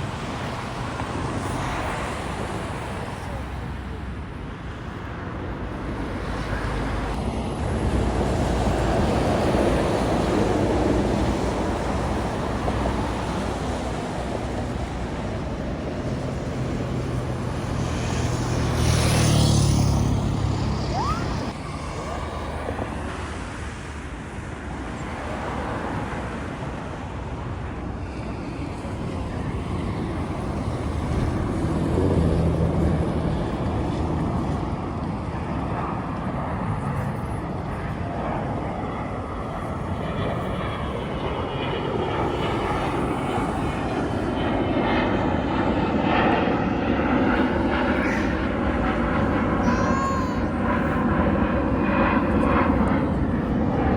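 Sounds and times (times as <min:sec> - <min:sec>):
jet airliner flying past: 0:00.0 - 0:53.9.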